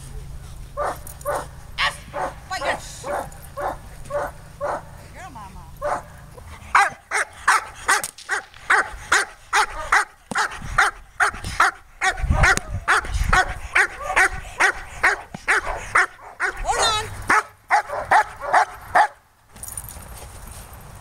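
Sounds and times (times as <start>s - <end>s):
dog barking rapidly: 0.8s - 4.9s, 5.8s - 6.1s, 6.7s - 19.2s.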